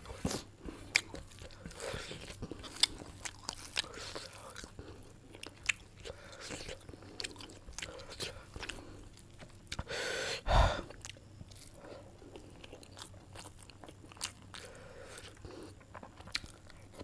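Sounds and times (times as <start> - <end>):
person chewing food: 0.0 - 10.0, 10.6 - 17.0.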